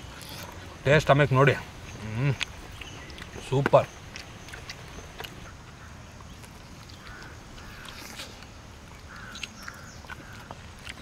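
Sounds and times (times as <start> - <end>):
outdoor background: 0.0 - 11.0
faint harsh bird calls: 1.5 - 11.0.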